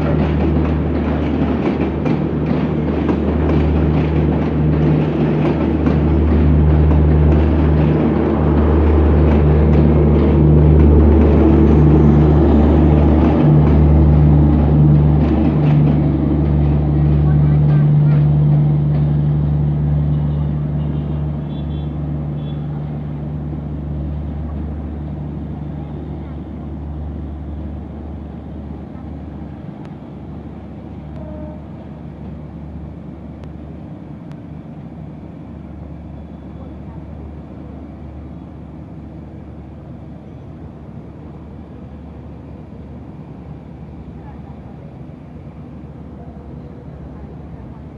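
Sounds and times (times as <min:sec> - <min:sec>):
diesel train engine drone: 0:00.0 - 0:47.9
train rushing noise: 0:00.0 - 0:47.9.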